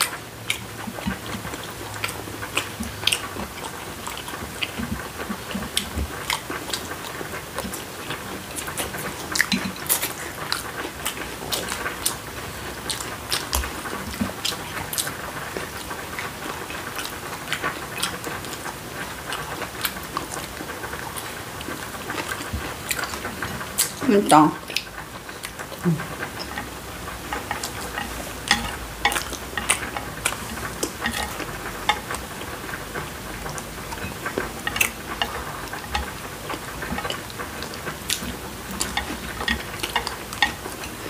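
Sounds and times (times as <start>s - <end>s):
chewing crispy fried chicken: 0.0s - 41.0s.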